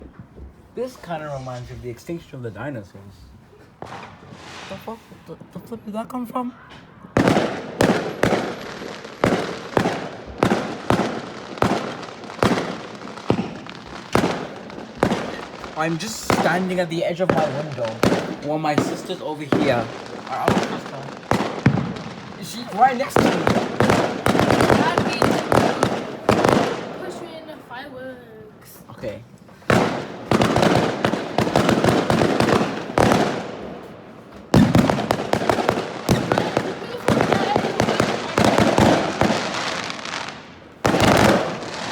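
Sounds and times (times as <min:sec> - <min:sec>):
fireworks bursting: 0:00.0 - 0:41.9.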